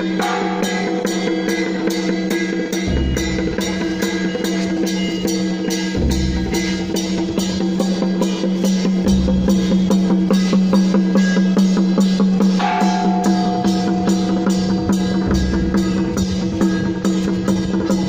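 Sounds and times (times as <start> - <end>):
percussion band playing fast beat: 0.0 - 18.0
deep drum: 2.7 - 18.0.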